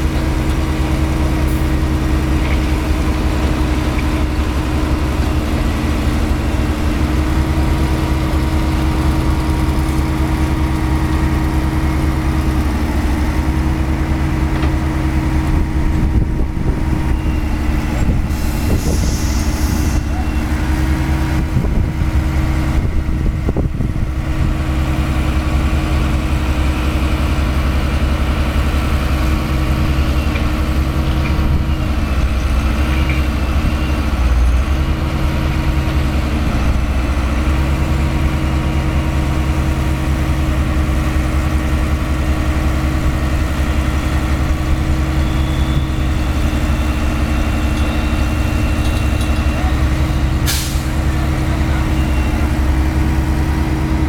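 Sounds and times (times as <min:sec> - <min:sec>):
heavy diesel engine drone: 0:00.0 - 0:54.0.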